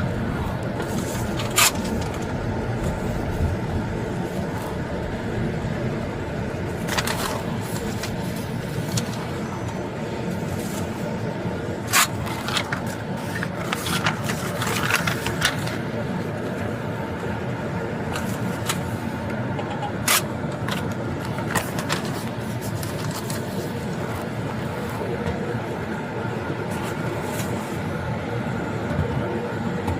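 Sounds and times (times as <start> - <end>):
car road and engine noise: 0.0 - 29.9.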